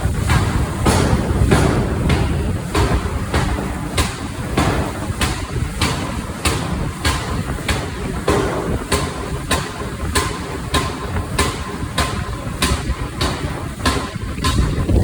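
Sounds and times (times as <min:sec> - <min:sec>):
low machine rumble: 0:00.0 - 0:15.0
forging machine striking steel: 0:00.1 - 0:15.0.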